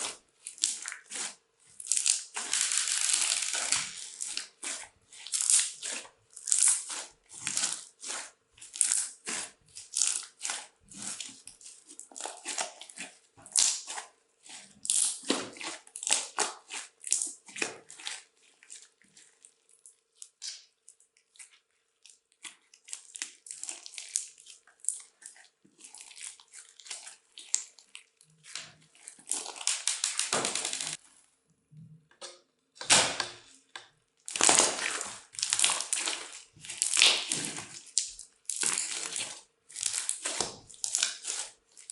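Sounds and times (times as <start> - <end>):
crunchy slime crackling and popping: 0.0 - 31.0, 34.2 - 41.9.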